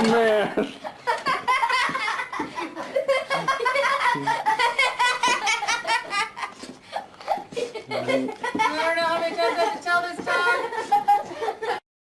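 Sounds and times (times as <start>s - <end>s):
person laughing: 0.2s - 11.8s.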